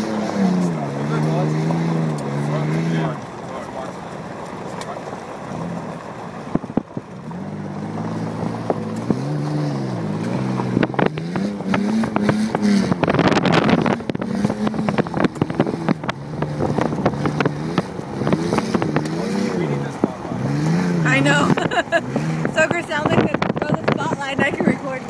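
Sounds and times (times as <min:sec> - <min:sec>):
off-road engine revving: 0:00.0 - 0:25.0.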